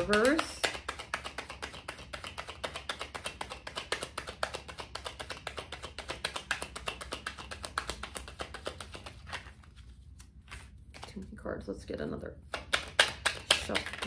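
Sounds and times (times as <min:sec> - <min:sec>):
playing cards shuffling: 0:00.0 - 0:11.4, 0:12.5 - 0:14.0.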